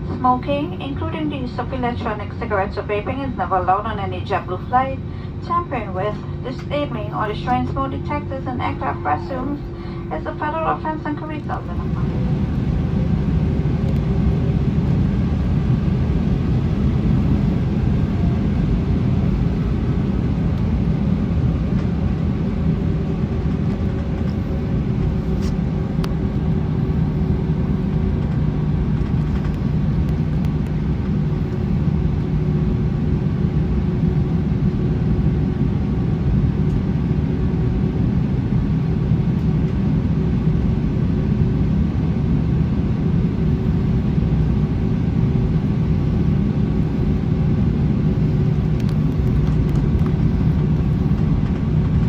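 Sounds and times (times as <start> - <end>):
aircraft engines idling: 0.0 - 52.0
faint steady hum: 0.0 - 52.0.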